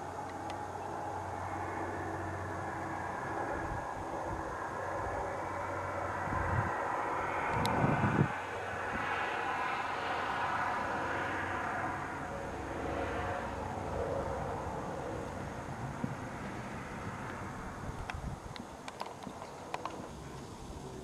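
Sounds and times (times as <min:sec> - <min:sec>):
passing vehicle engine drone: 0:00.0 - 0:21.0.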